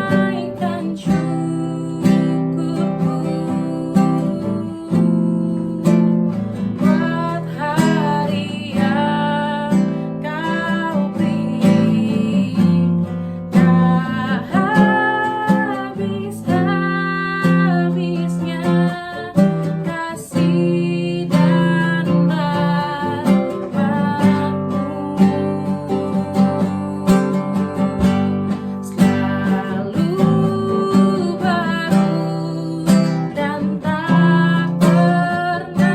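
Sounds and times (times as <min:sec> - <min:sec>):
person singing: 0:00.0 - 0:35.9
strummed acoustic guitar: 0:00.0 - 0:35.9.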